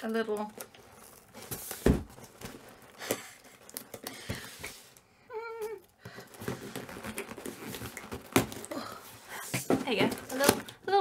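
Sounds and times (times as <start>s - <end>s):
cardboard box being opened: 0.6s - 4.9s, 6.1s - 10.8s.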